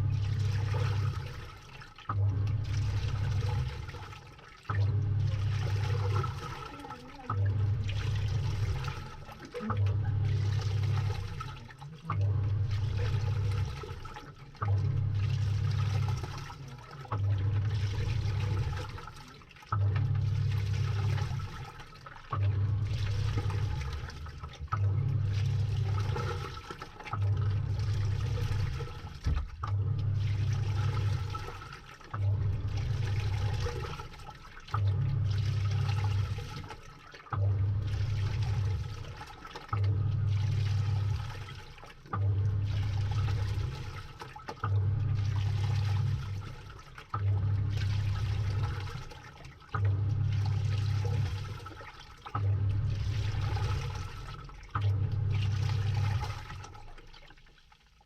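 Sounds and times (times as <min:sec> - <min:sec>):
washing machine motor hum: 0:00.0 - 0:58.0
water and clothes churning: 0:00.0 - 0:58.0.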